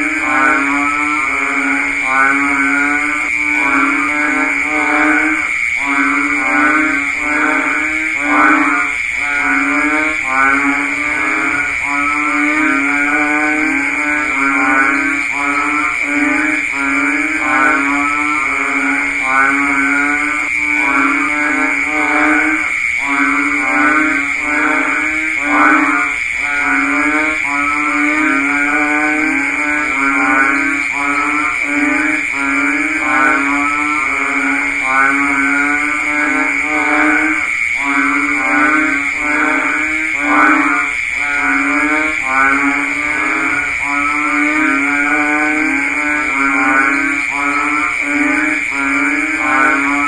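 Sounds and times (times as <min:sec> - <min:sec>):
bullfrogs calling: 0:00.0 - 0:50.0.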